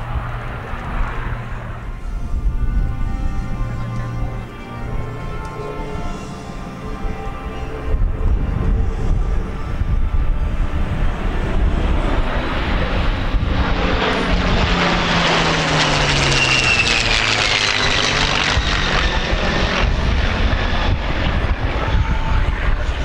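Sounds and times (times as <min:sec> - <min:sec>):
jet engines roaring: 0:00.0 - 0:23.0
propeller aircraft flying past: 0:00.0 - 0:23.0.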